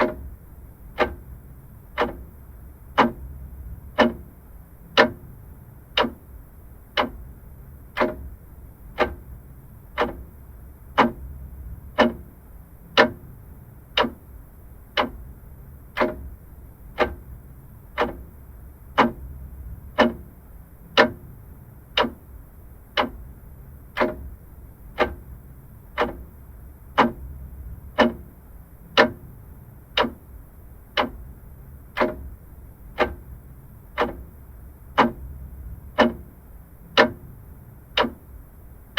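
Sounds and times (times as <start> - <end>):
faint low hum: 0.0 - 38.9
mechanical clock ticking: 0.0 - 38.9.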